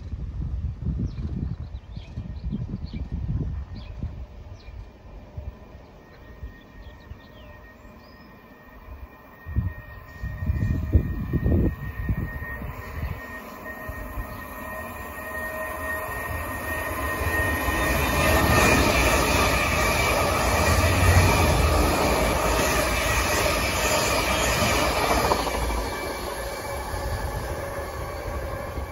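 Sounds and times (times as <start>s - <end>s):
train wheels on rails: 3.2s - 28.9s
thin high whine: 4.7s - 28.9s.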